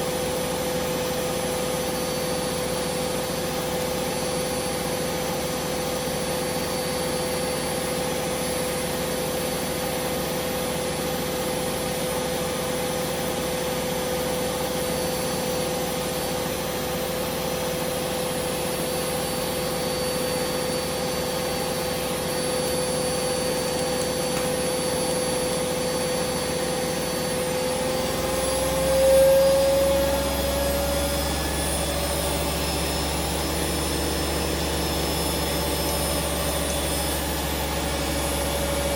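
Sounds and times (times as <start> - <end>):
washing machine spinning whine: 0.0 - 38.9.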